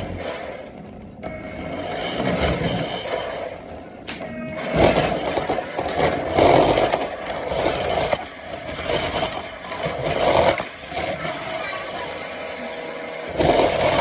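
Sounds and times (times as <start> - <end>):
toy car electric motor whirring: 0.0 - 3.9, 4.5 - 14.0
wheels rattling on hard floor: 0.0 - 12.5, 13.3 - 14.0.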